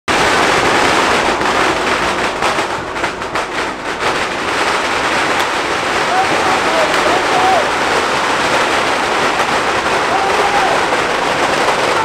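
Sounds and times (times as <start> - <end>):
fireworks crackling: 0.1 - 12.0.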